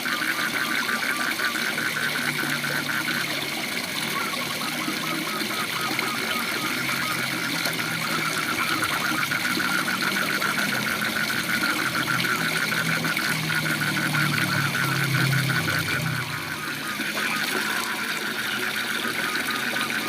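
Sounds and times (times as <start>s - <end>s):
frog pulsing call: 0.0s - 20.0s.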